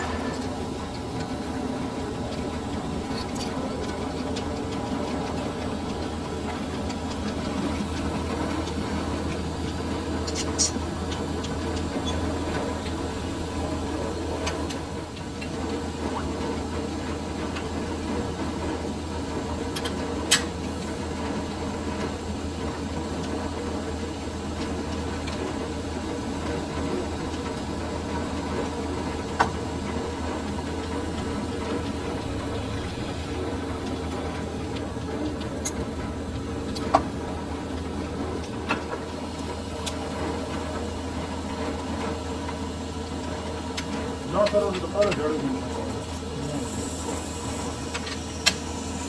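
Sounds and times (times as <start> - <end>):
metal lathe humming: 0.0 - 49.0.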